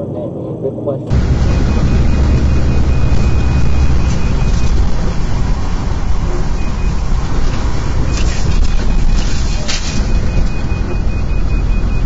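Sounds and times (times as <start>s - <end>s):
car road rumble: 0.0s - 12.0s
wind noise: 1.1s - 12.0s.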